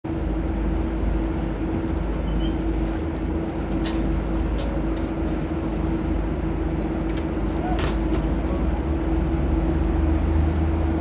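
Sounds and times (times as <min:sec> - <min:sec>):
boat engine droning: 0:00.1 - 0:11.0.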